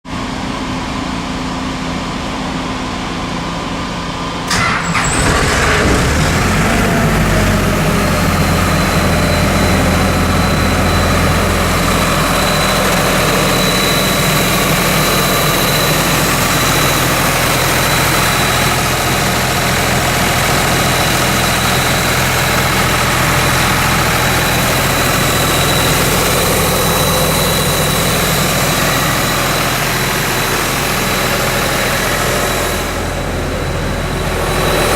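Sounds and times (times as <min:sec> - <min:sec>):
diesel engine starting and running: 0:00.2 - 0:34.9
thin high whine: 0:04.5 - 0:34.9.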